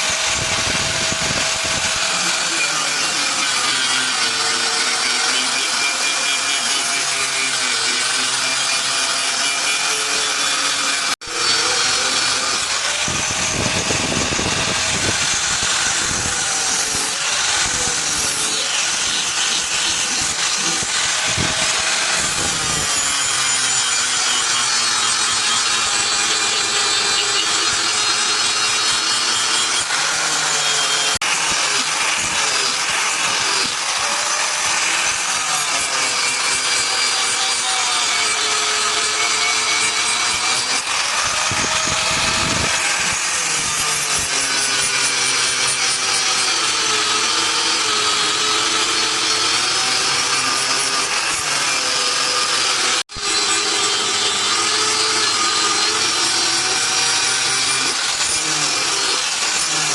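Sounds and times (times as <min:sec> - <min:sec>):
power tool grinding steel: 0:00.0 - 0:59.9.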